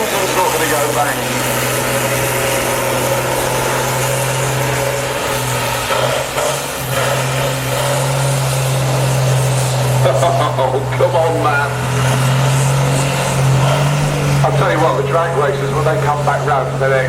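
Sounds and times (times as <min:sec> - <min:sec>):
diesel engine at high revs: 0:00.0 - 0:17.0
tyres spinning and hissing: 0:00.0 - 0:17.0.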